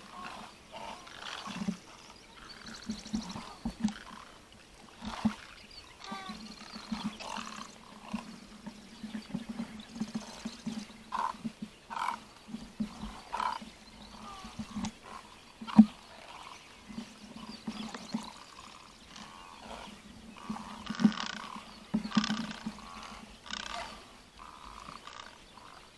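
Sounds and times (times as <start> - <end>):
harsh croaking calls: 0.0 - 25.9.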